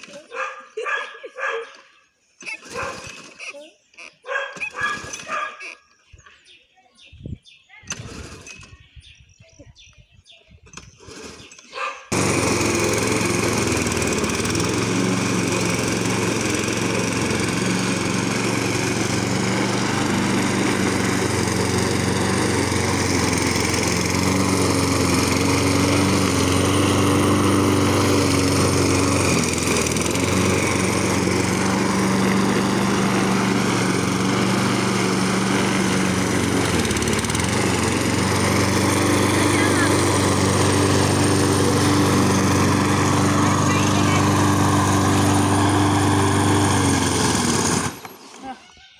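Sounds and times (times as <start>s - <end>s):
lawn mower engine running: 0.0s - 0.6s, 2.4s - 6.0s, 7.9s - 8.9s, 10.6s - 48.8s.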